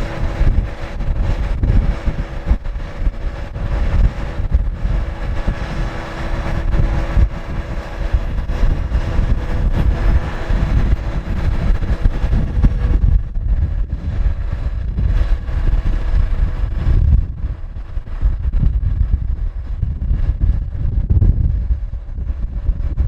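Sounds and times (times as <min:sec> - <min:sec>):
diesel engine humming: 0:00.0 - 0:18.6
wind buffeting microphone: 0:00.0 - 0:23.0.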